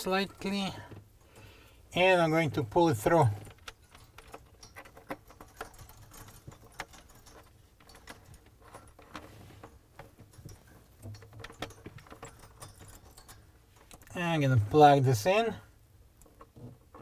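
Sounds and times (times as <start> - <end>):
wire harness clicking and rustling: 0.0 - 17.0.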